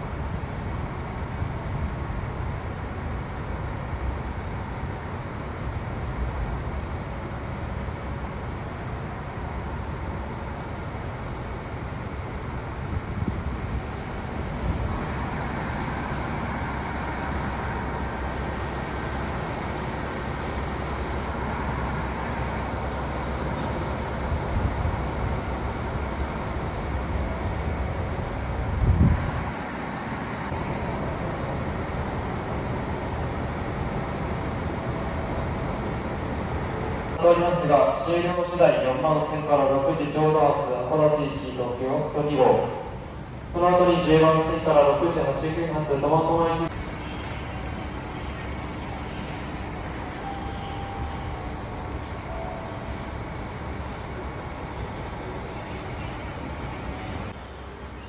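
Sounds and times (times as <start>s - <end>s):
railway station rumbling: 0.0s - 58.0s.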